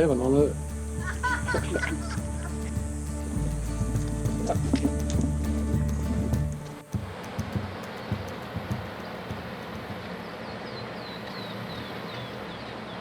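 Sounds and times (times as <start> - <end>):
outdoor rushing background: 0.0 - 10.9.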